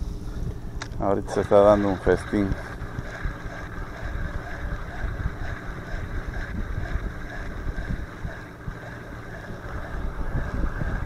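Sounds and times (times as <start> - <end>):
wind buffeting microphone: 0.3 - 11.0.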